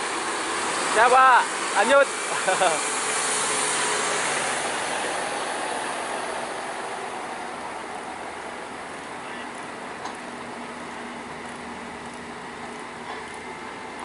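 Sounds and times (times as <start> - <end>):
heavy truck passing: 0.0 - 14.0.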